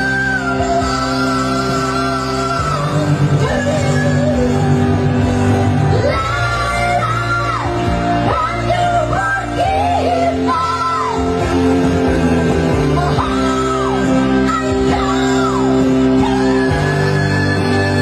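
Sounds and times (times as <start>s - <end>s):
keyboard chords: 0.0s - 18.0s
live band: 0.0s - 18.0s.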